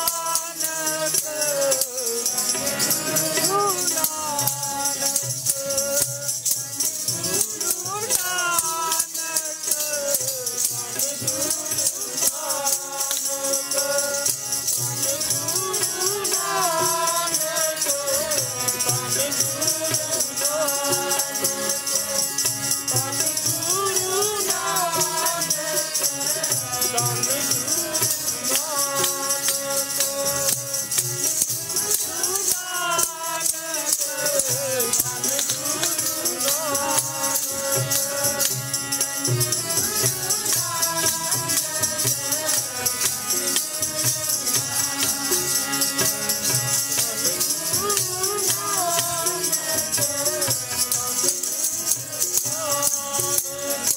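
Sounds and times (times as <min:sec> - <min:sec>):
harmonium chords: 0:00.0 - 0:53.9
jingling percussion: 0:00.0 - 0:53.9
person singing a hymn: 0:00.0 - 0:53.9.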